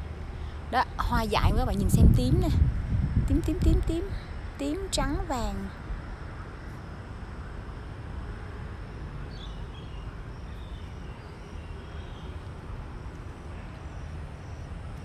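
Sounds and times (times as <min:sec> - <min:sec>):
low rumbling hiss: 0:00.0 - 0:15.0.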